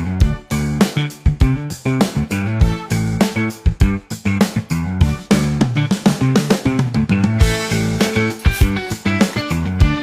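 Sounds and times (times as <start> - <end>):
guitar music over steady beat: 0.0 - 10.0.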